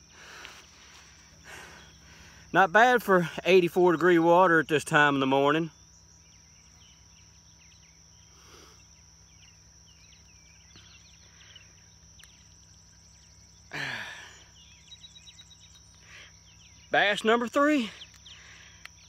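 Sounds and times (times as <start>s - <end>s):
high insect hum: 0.0s - 19.0s
small birds chirping: 0.0s - 19.0s.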